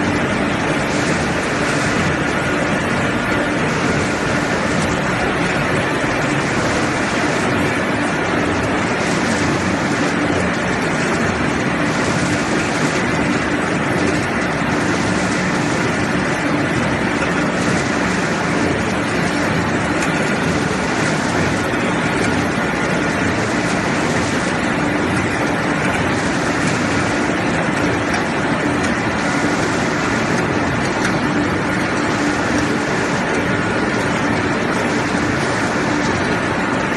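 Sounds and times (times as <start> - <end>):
pellet mills droning: 0.0 - 36.9.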